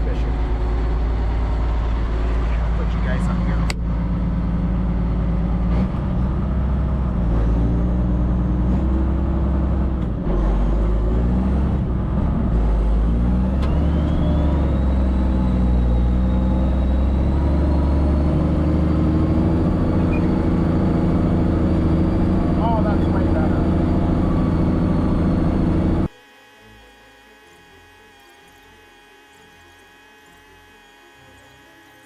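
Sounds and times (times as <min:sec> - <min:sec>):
tractor diesel engine running: 0:00.0 - 0:26.2.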